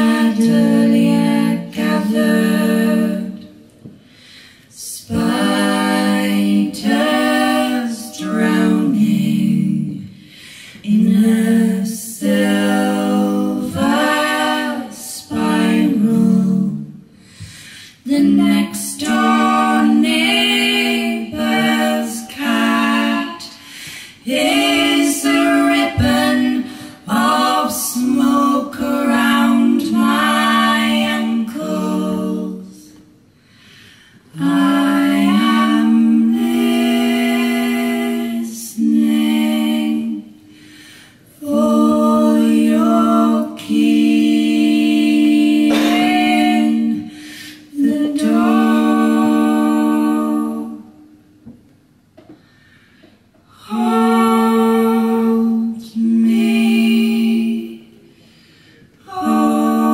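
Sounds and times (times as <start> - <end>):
women singing in harmony: 0.0 - 4.1, 4.7 - 33.1, 34.2 - 51.4, 52.9 - 59.9.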